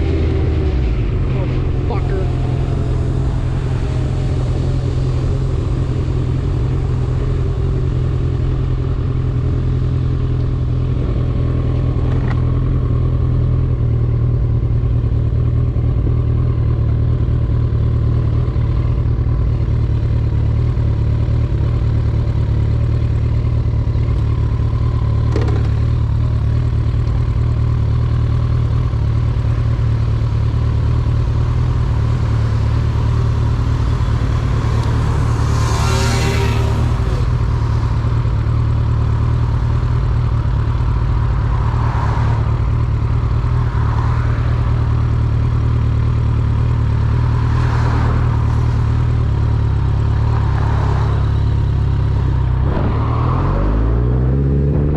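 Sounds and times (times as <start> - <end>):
motorcycle engine droning: 0.0 - 54.9.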